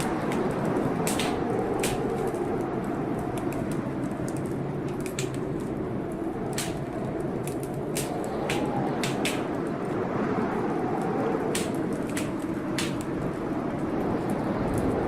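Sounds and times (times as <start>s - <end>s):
fire popping: 0.0s - 15.0s
rushing storm noise: 0.0s - 15.0s
wood fire crackling: 0.0s - 15.0s.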